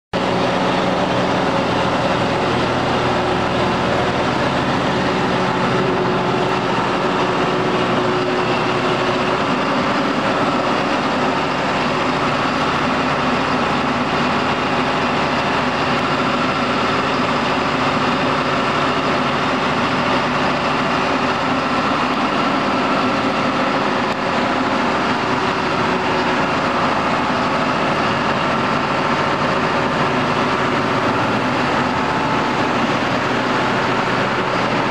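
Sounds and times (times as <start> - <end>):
combine harvester mechanical drone: 0.2 - 34.9.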